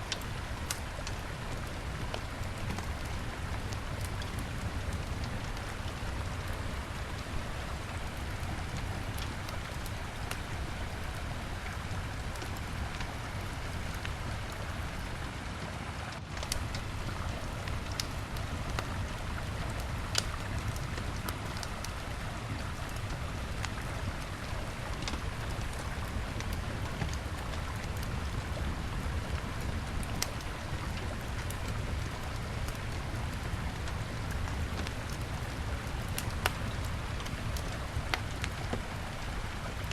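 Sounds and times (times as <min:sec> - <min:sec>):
campfire crackling and popping: 0:00.0 - 0:15.4, 0:16.3 - 0:39.9.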